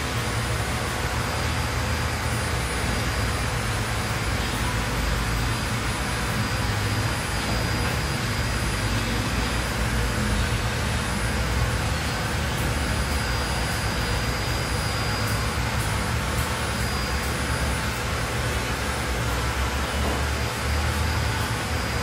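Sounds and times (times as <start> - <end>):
motor running: 0.0 - 22.0
thin high whine: 0.0 - 22.0.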